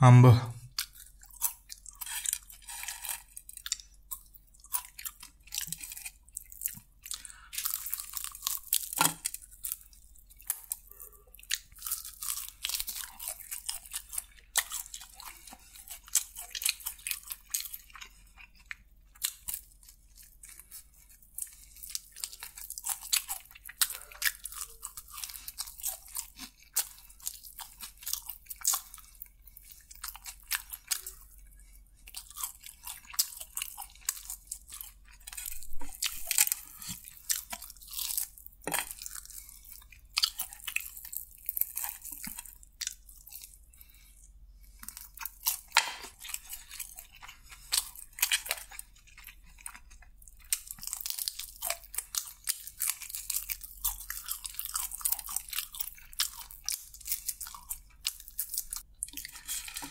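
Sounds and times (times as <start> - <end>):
soft chewing: 0.5 - 59.9
crunching fried chicken: 0.7 - 59.9.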